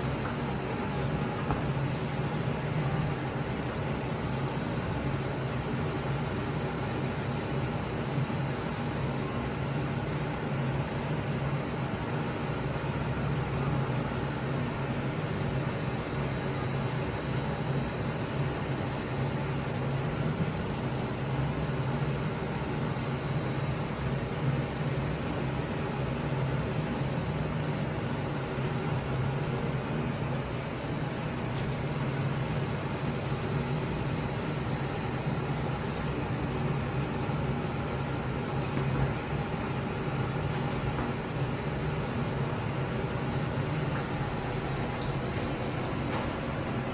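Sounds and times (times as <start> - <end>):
kitchen hum and hiss: 0.0 - 46.9.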